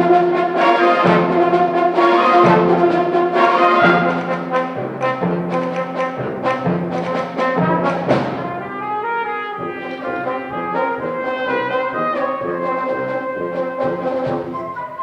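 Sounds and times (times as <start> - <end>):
sharp percussion hits: 0.0 - 12.7
symphonic band playing: 0.0 - 15.0.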